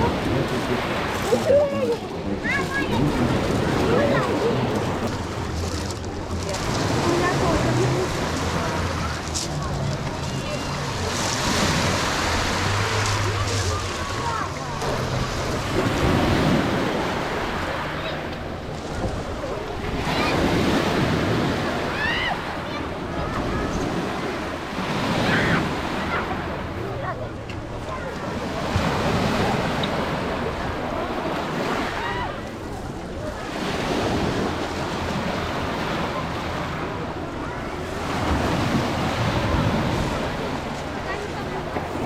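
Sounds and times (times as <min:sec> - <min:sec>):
motorboat engine hum: 0:00.0 - 0:42.0
sea waves: 0:00.0 - 0:42.0
water rushing: 0:00.0 - 0:42.0.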